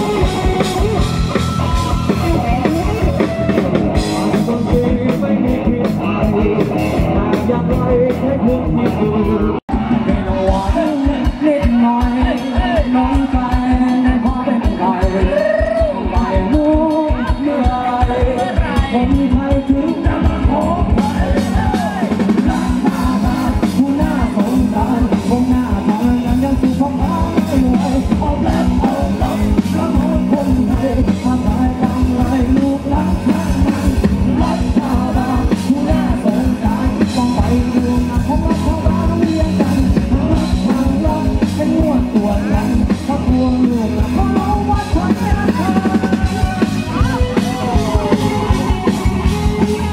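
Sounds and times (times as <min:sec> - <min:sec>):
drum kit beat: 0:00.0 - 0:49.9
live rock band playing: 0:00.0 - 0:49.9.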